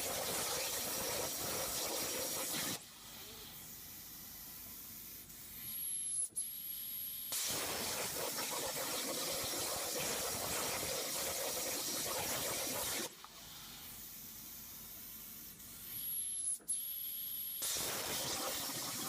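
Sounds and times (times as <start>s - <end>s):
plasma cutting arc hissing: 0.0s - 5.8s, 7.3s - 16.2s, 17.6s - 19.0s.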